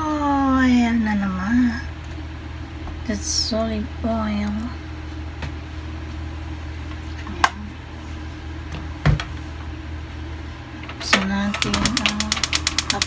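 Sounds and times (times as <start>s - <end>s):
gas stove burner humming: 1.1s - 13.0s.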